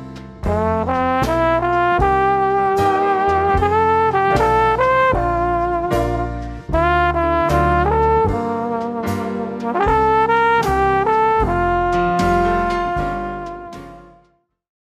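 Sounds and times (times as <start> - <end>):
heavy bass: 0.0 - 14.2
lead melody of held notes: 0.0 - 14.2.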